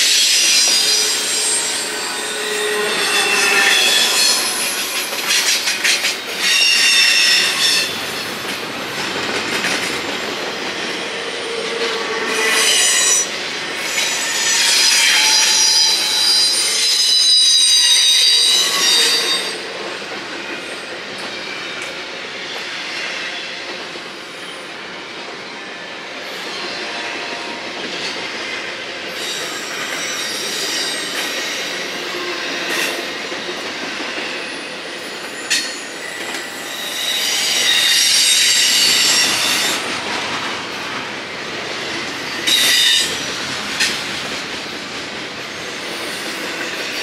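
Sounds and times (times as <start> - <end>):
train wheels squealing: 0.0 - 8.3, 10.8 - 19.8, 20.6 - 24.8, 25.4 - 27.8, 29.1 - 40.0, 42.1 - 43.4, 45.4 - 47.0
freight train rumbling past: 0.0 - 47.0.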